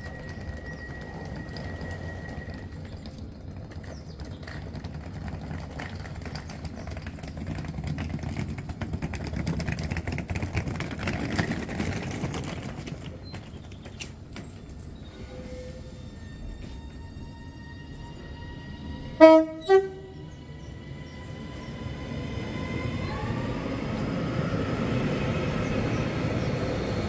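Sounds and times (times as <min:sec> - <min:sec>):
train rumble with rapid clicking: 0:00.0 - 0:27.0.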